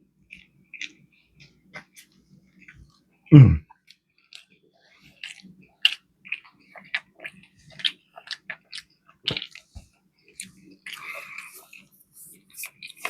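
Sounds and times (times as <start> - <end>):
chewing and biting crunches: 0.3 - 3.0, 3.8 - 13.0.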